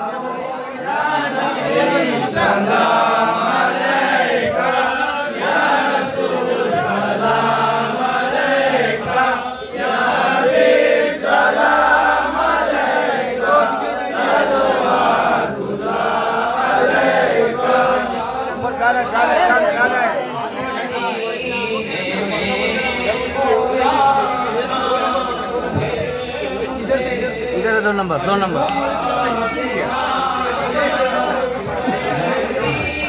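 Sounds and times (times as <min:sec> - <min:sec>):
men chanting in unison: 0:00.0 - 0:33.0.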